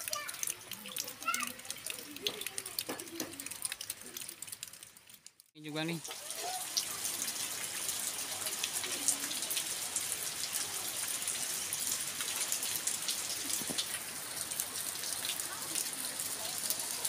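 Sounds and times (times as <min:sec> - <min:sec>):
raindrops ticking close by: 0:00.0 - 0:17.0
steady rain hiss: 0:00.0 - 0:17.0.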